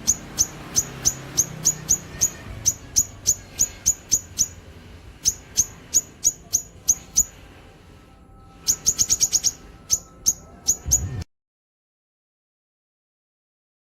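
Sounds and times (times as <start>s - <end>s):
songbird chirping: 0.0s - 11.3s.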